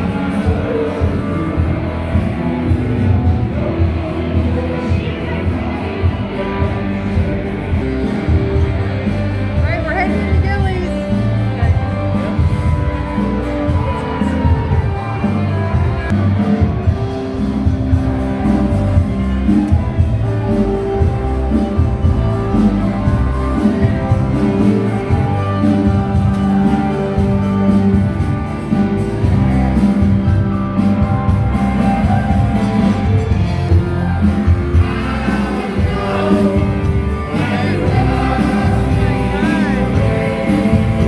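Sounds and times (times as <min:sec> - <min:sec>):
electric guitars: 0:00.0 - 0:41.0.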